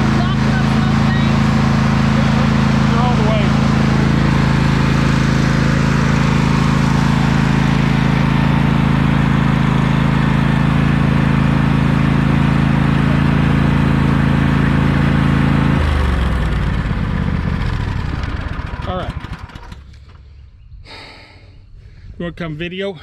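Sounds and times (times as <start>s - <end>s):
lawn mower engine running: 0.0s - 21.3s.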